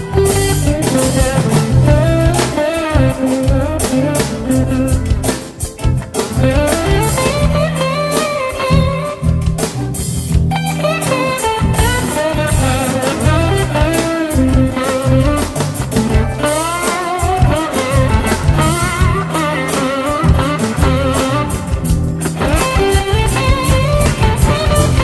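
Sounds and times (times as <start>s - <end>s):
drums: 0.0s - 25.0s
electric bass: 0.0s - 25.0s
electric guitar lead: 0.0s - 25.0s.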